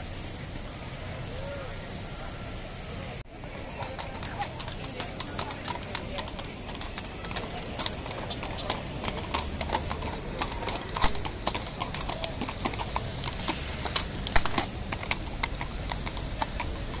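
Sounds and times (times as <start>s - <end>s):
city traffic hum: 0.0s - 17.0s
horse hooves clip-clopping on pavement: 3.3s - 17.0s.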